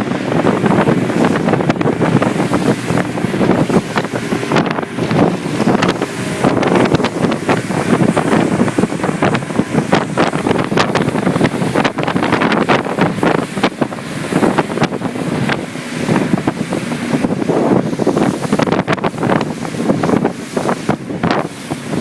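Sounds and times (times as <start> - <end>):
choppy water splashing: 0.0 - 22.0
wind buffeting microphone: 0.0 - 22.0.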